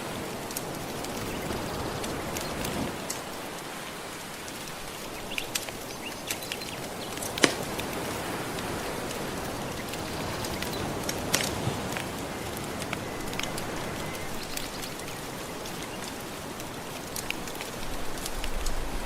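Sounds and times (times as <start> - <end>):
ocean waves washing: 0.0 - 19.0
wood fire crackling: 0.0 - 19.0.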